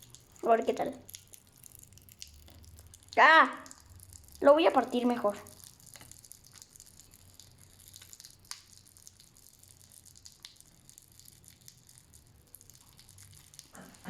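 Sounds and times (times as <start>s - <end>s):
popping candy crackling: 0.0s - 14.0s.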